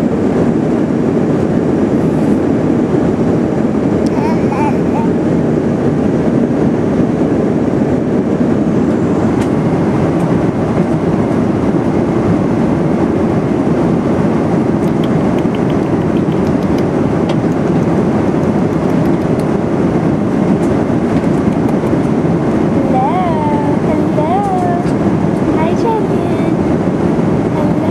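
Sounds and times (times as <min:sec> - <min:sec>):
airliner cabin engine rush: 0:00.0 - 0:27.9.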